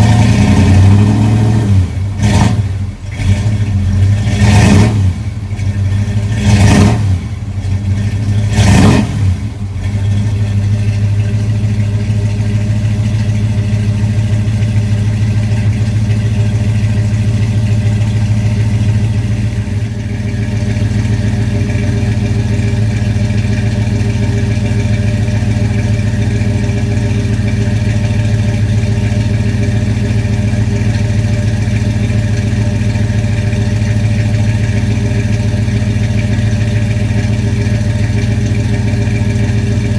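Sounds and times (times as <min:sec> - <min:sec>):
car engine revving and idling: 0:00.0 - 0:39.9.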